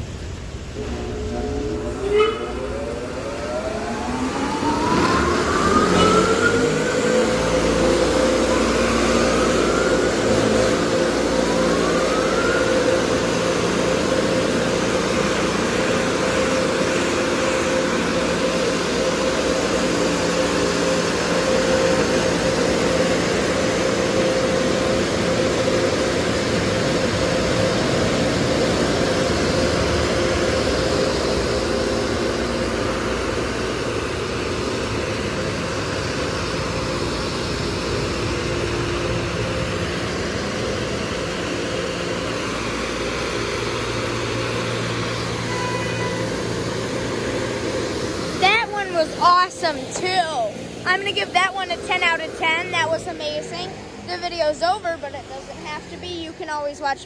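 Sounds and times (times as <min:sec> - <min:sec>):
motor whine: 0:00.0 - 0:56.6
car wash air dryers blowing: 0:00.0 - 0:57.0.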